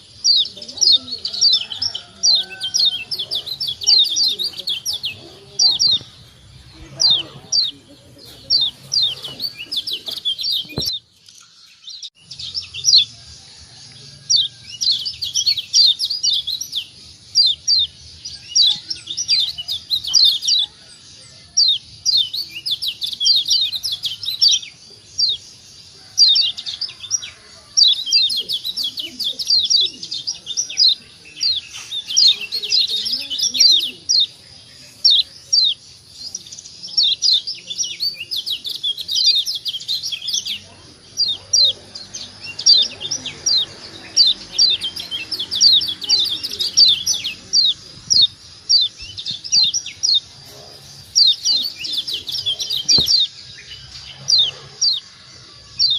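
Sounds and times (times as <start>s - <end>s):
bird twittering song: 0.0s - 55.9s.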